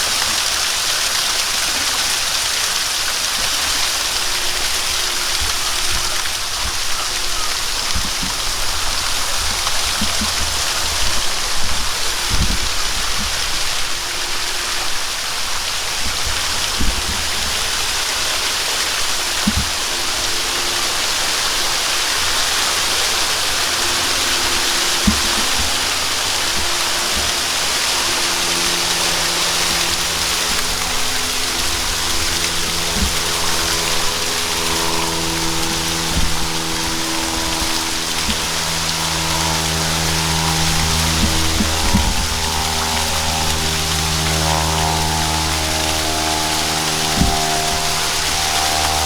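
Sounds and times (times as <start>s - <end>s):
steady sustained tones: 0.0s - 49.0s
waterfall rushing: 0.0s - 49.0s.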